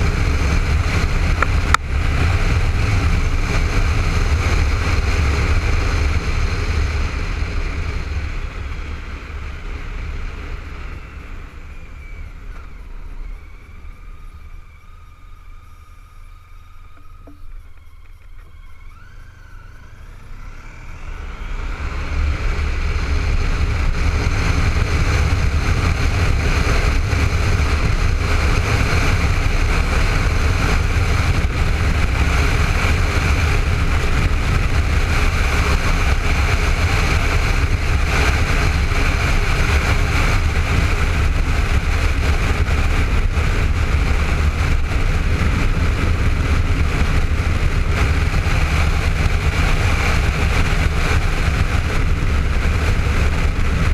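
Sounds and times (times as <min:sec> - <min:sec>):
motorcycle engine: 0:00.0 - 0:53.9.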